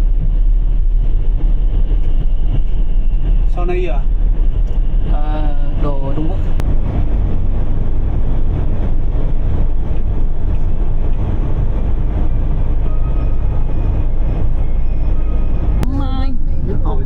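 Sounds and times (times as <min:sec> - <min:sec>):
vehicle rumble from inside: 0:00.0 - 0:17.0.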